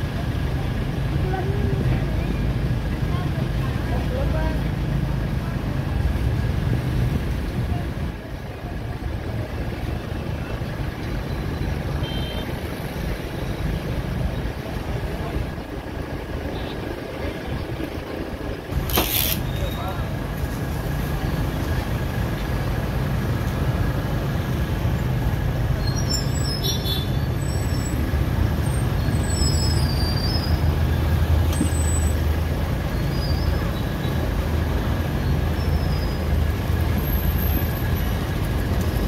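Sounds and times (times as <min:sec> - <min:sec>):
motorbike engines rumbling: 0:00.0 - 0:39.0.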